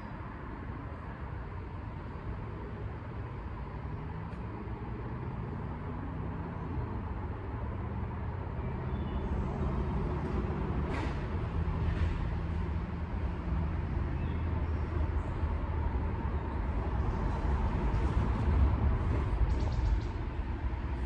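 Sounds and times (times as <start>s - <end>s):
engine and traffic rumble: 0.0s - 21.0s.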